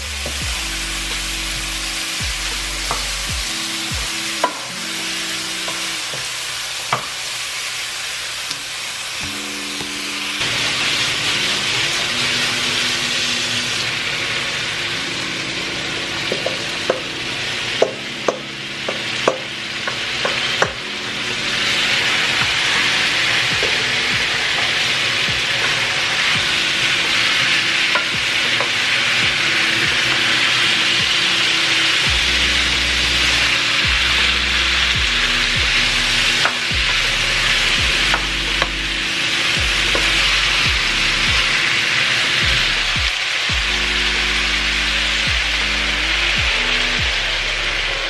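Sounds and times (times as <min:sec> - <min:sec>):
chicken sizzling in a pot: 0:00.0 - 0:47.9.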